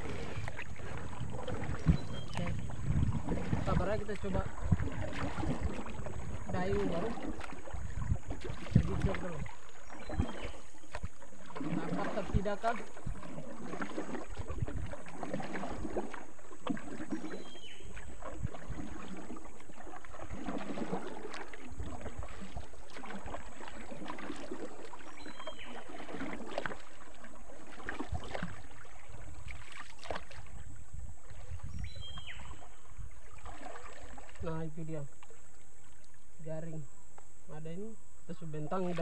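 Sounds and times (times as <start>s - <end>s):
paddle dipping in water: 0.0s - 37.4s, 38.4s - 39.0s
water swishing along canoe hull: 0.0s - 39.0s.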